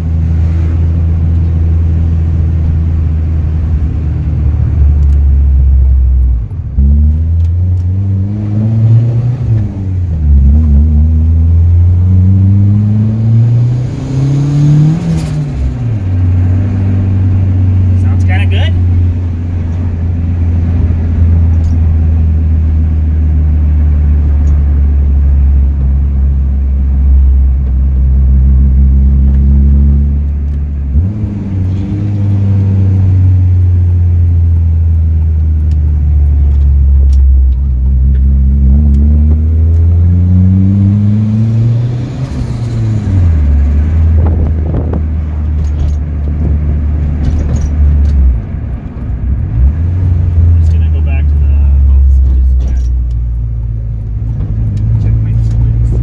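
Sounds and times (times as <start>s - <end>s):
car engine accelerating from cabin: 0.0s - 56.0s.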